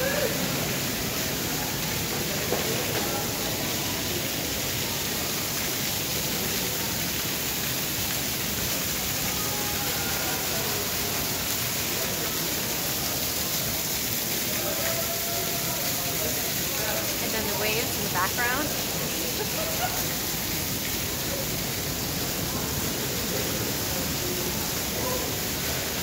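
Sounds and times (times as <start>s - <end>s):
heavy rain falling: 0.0s - 26.0s
water splashing onto deck: 0.0s - 26.0s.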